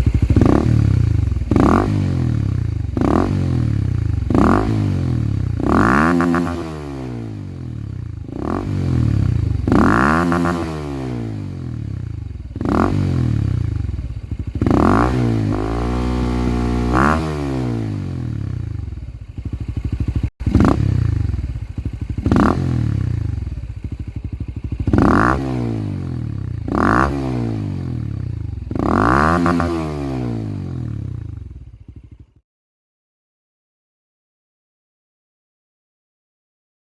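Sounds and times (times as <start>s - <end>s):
motorcycle engine idling: 0.0s - 29.7s, 30.3s - 32.4s
motorcycle engine revving: 0.0s - 32.4s.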